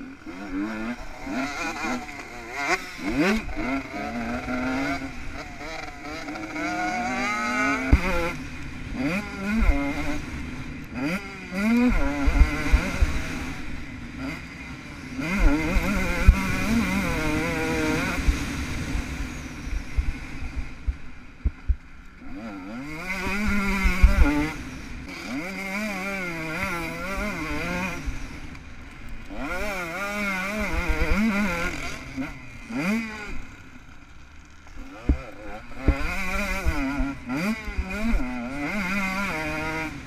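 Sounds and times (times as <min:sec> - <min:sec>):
motocross engine revving: 0:00.0 - 0:40.0.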